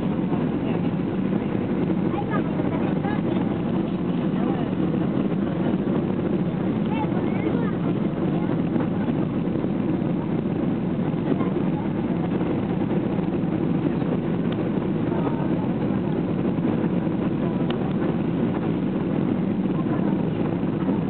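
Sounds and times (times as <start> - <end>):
airplane cabin engine and airflow noise: 0.0 - 21.0.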